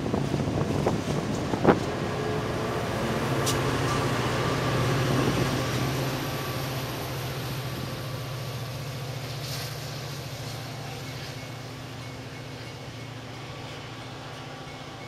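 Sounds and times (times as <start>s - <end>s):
diesel locomotive engine hum: 0.0s - 15.0s.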